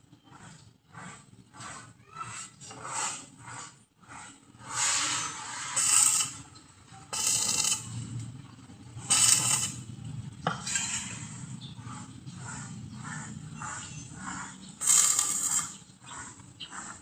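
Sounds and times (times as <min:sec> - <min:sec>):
scraping and rubbing strokes: 0:00.1 - 0:08.0, 0:09.0 - 0:09.9, 0:10.5 - 0:17.0.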